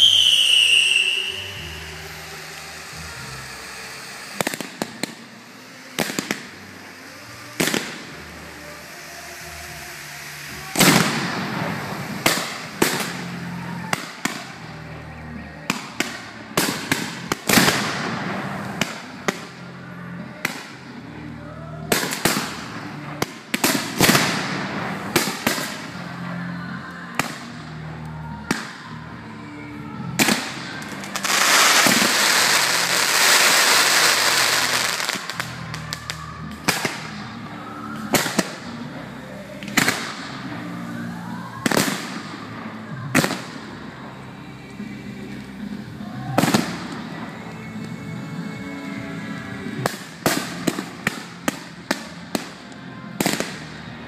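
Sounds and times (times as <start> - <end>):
sparks crackling: 0.0 - 21.3, 21.9 - 48.0
fireworks bursts and bangs: 0.0 - 47.5, 49.3 - 54.0
dense crackling hiss: 0.0 - 54.0.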